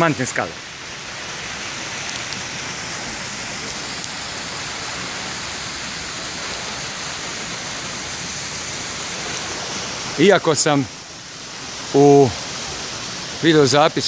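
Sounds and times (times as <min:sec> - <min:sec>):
steady outdoor rushing noise: 0:00.0 - 0:14.0.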